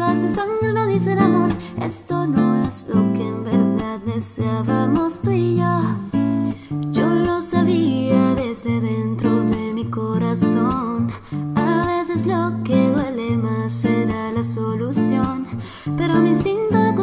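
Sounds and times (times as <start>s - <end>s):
acoustic guitar picking chords: 0.0s - 17.0s
woman singing: 0.0s - 17.0s.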